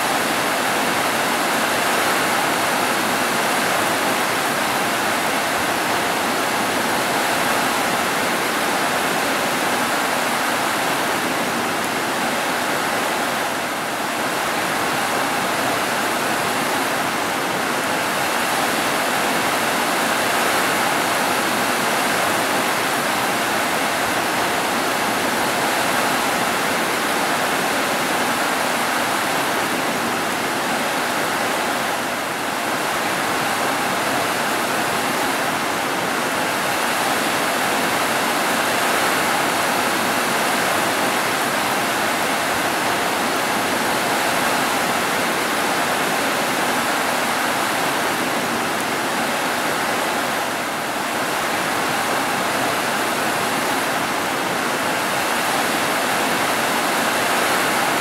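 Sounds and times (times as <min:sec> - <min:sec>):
heavy rain on roofs: 0:00.0 - 0:58.0.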